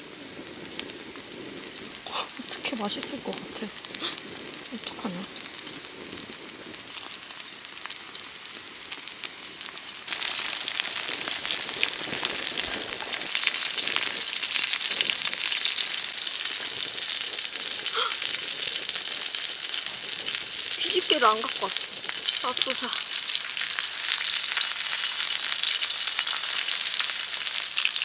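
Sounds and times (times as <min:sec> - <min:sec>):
batter sizzling in oil: 0:00.0 - 0:28.0.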